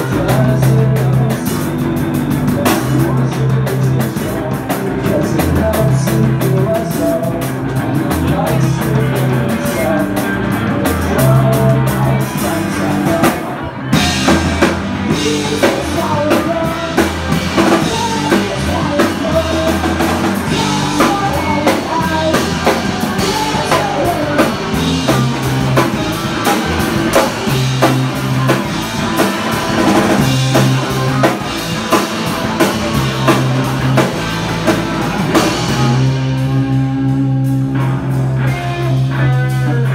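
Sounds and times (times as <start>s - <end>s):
drum beat with cymbals: 0.0s - 39.6s
rock band playing: 0.0s - 39.9s.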